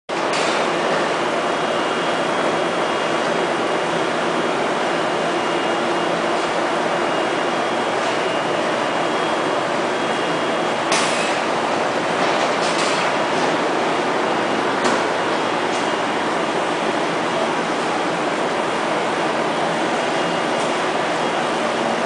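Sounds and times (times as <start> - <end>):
industrial machinery roar: 0.1 - 22.0.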